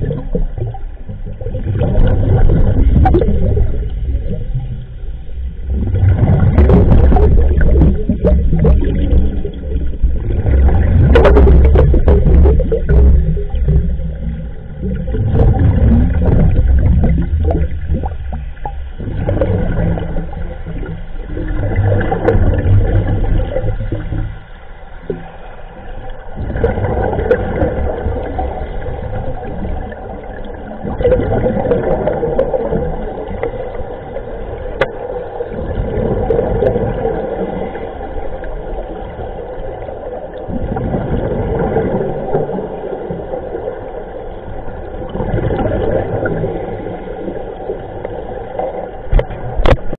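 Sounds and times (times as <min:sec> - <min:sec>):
underwater bubbles gurgling: 0:00.0 - 0:49.9.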